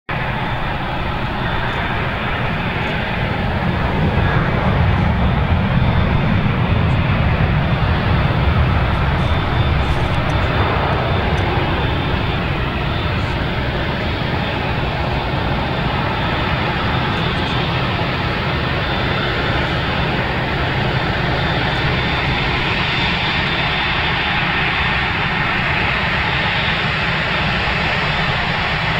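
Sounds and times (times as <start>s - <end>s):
faint high engine whine: 0.1s - 28.9s
jet engines rumbling: 0.1s - 28.9s.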